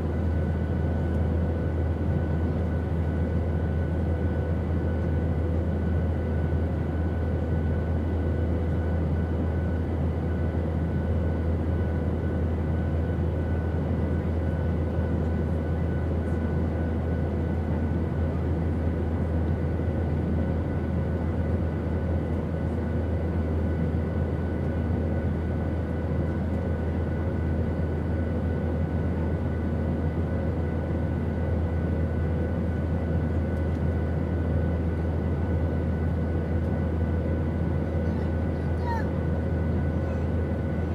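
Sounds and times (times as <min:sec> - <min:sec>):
airplane engine drone: 0:00.0 - 0:40.9.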